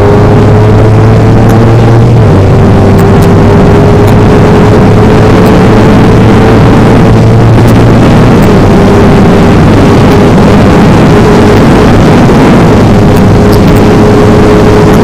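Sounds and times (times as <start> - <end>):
loud motorcycle engine running: 0.0 - 15.0.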